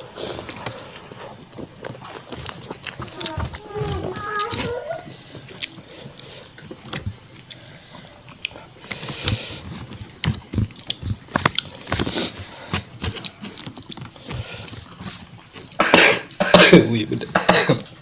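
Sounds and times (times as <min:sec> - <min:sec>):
wet chewing: 0:00.5 - 0:15.8.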